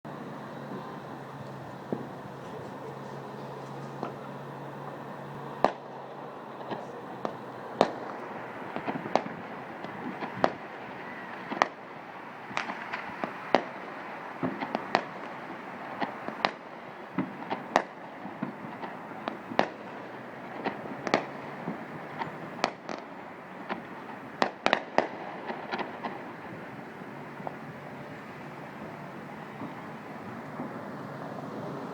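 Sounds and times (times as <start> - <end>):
steady background hum: 0.1 - 31.9
fireworks bangs and pops: 0.6 - 4.6, 5.5 - 31.9.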